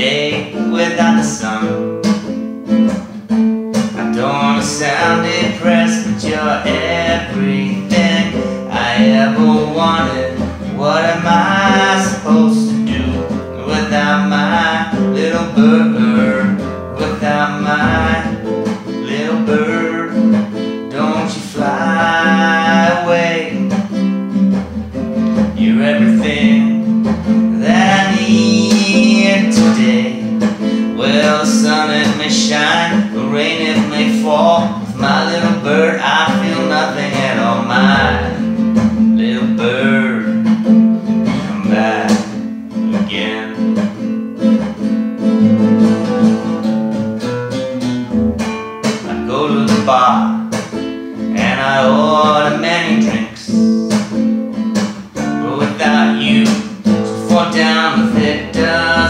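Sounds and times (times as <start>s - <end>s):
man singing: 0.0s - 2.4s, 3.8s - 24.0s, 25.1s - 44.1s, 49.0s - 54.2s, 55.2s - 59.0s
strummed classical guitar: 0.0s - 59.0s.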